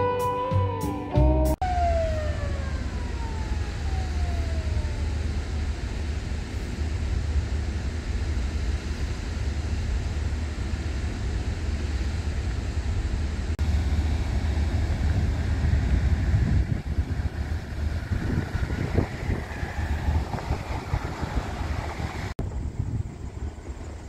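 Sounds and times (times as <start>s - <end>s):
low rumble of machinery: 1.6s - 24.0s
wind buffeting microphone: 1.7s - 24.0s.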